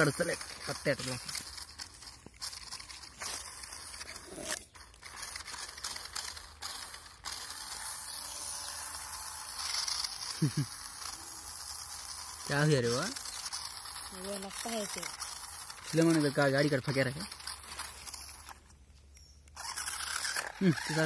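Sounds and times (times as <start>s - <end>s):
wheels churning in sand: 0.0s - 18.5s, 19.6s - 21.0s
toy motor and gearbox whirring: 0.0s - 21.0s.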